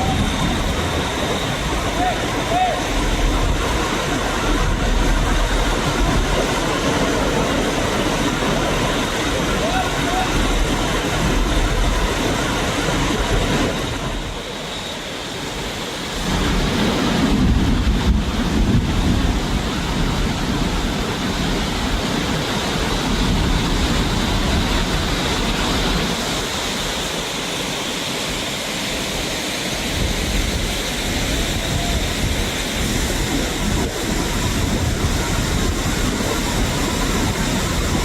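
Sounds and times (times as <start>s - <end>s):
wind rumble on microphone: 0.0s - 14.6s, 15.4s - 38.0s
flood river rushing: 0.0s - 38.0s.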